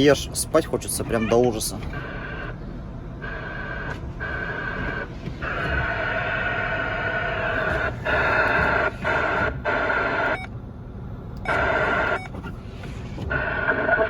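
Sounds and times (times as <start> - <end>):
crackling radio transmissions: 0.0 - 10.4, 11.5 - 12.4, 13.3 - 14.0.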